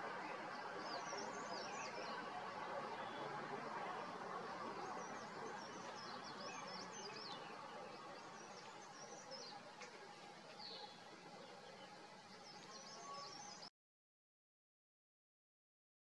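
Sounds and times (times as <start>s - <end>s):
outdoor background hiss: 0.0s - 13.7s.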